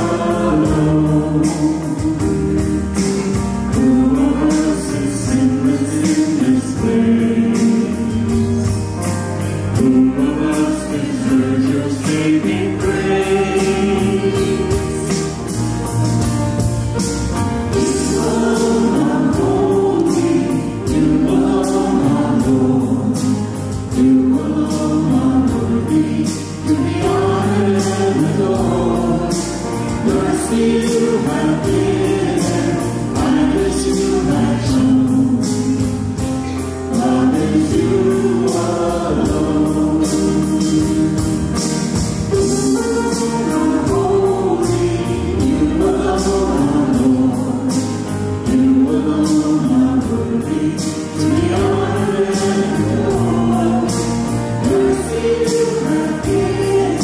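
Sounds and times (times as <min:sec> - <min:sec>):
choir singing a hymn: 0:00.0 - 0:57.0
low accompaniment with a beat: 0:00.0 - 0:57.0.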